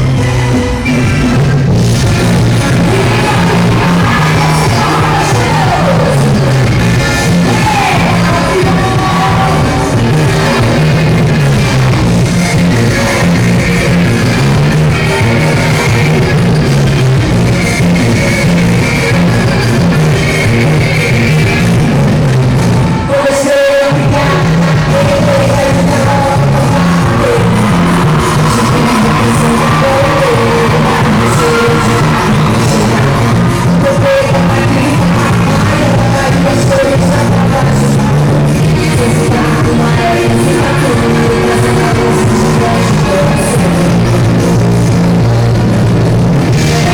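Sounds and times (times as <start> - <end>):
rock music with singing: 0.0 - 46.9.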